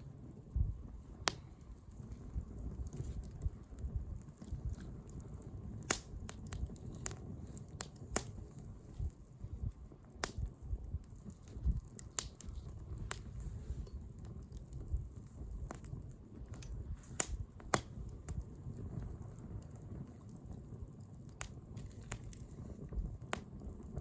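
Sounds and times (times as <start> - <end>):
burning wood popping: 0.0 - 24.0
low rumble of flames: 0.0 - 24.0.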